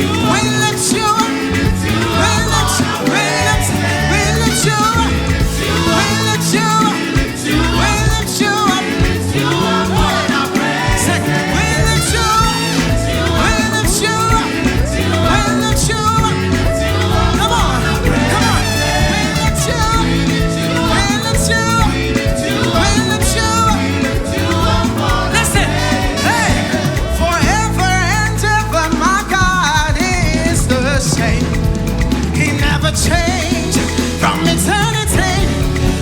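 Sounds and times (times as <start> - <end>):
gospel band playing: 0.0 - 36.0
people singing: 0.0 - 36.0.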